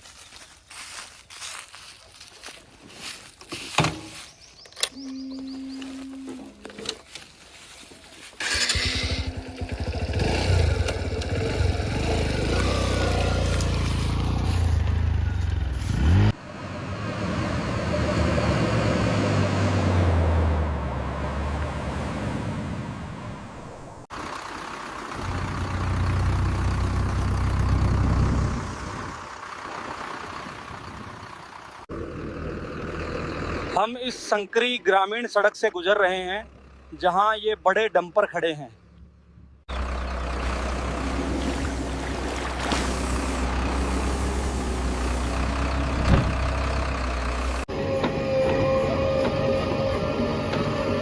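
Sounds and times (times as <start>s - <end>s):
diesel engine rumbling: 0.1s - 51.0s.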